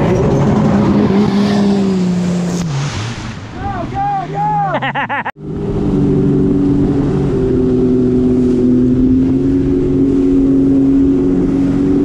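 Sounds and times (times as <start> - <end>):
jet ski engine at high revs: 0.0 - 12.0
water rushing under hull: 0.0 - 12.0.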